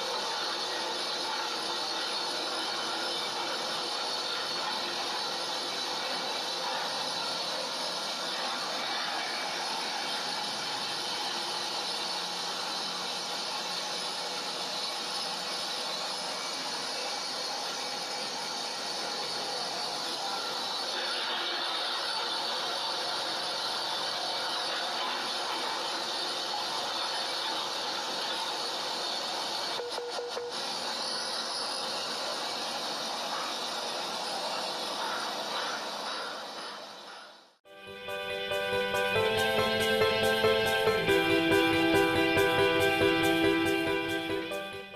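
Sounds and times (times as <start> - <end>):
chopper grinder machine running: 0.0 - 37.1, 38.1 - 44.9.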